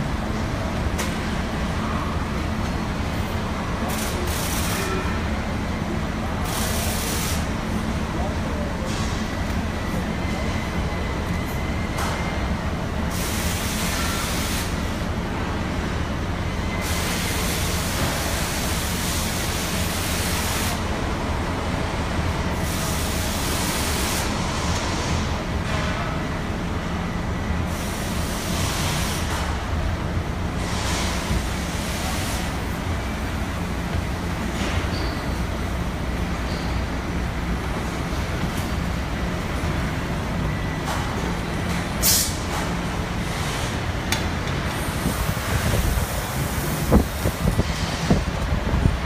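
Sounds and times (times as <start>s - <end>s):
low machinery hum: 0.0s - 49.0s.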